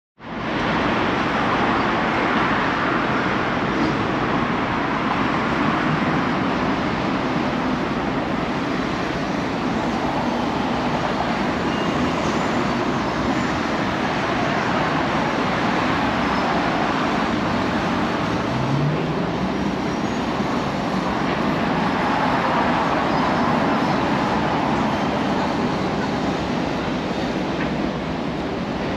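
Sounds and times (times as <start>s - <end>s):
city traffic hum: 0.2s - 28.9s.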